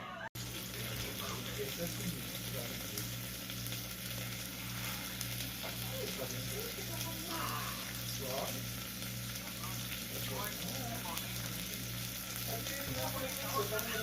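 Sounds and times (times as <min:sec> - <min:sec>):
food sizzling in a pan: 0:00.4 - 0:14.0.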